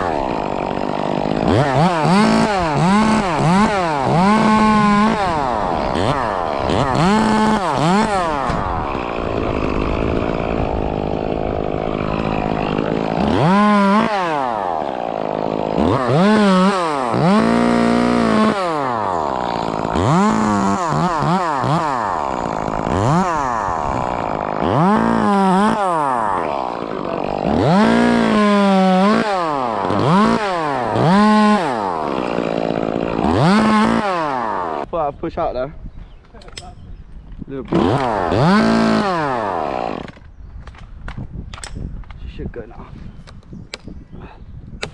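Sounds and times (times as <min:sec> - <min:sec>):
chainsaw revving while cutting: 0:00.0 - 0:34.9, 0:37.7 - 0:40.2.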